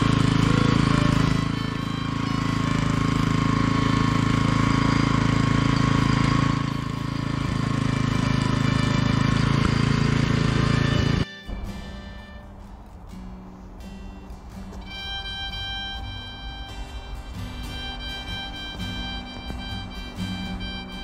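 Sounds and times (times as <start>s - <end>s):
motor running: 0.0s - 21.0s.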